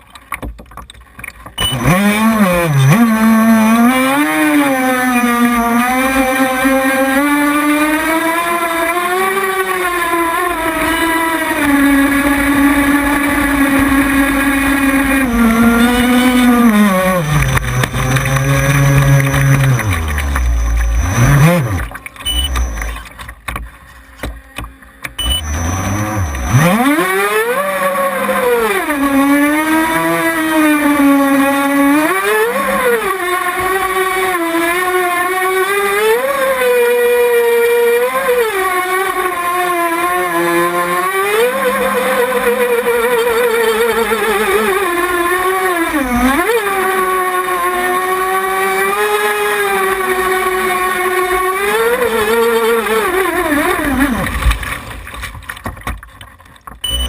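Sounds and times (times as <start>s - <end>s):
small boat engine whining: 1.0s - 57.0s.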